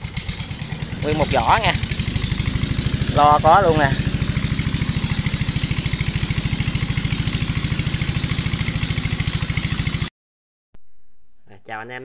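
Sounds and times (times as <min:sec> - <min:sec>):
boat engine chugging: 0:00.0 - 0:10.1.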